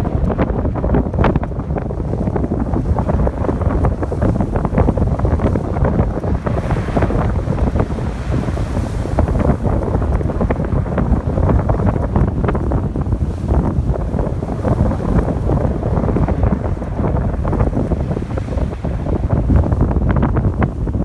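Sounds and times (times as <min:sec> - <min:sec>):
ocean surf on beach: 0:00.0 - 0:21.0
wave washing in: 0:00.0 - 0:21.0
wind buffeting microphone: 0:00.0 - 0:21.0.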